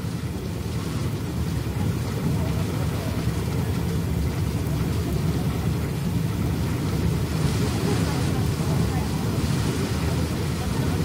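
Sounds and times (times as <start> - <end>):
train interior rumble and hiss: 0.0 - 11.0.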